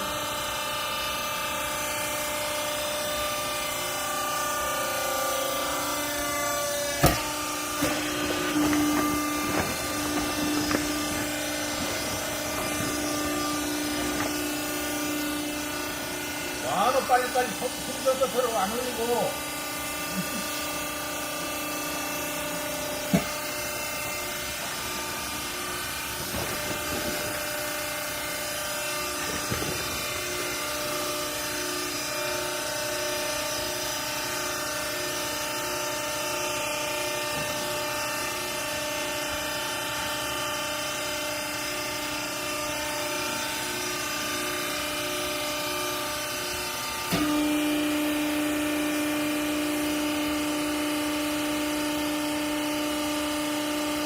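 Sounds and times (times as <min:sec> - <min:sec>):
baler motor and pump hum: 0:00.0 - 0:54.0.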